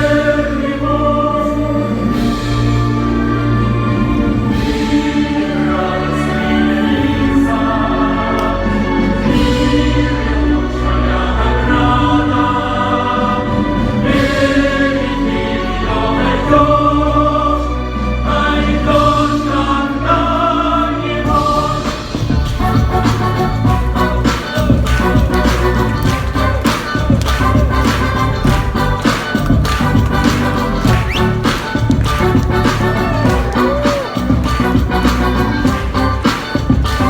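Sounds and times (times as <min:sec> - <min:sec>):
choir singing: 0:00.0 - 0:37.0
musical accompaniment: 0:00.0 - 0:37.0.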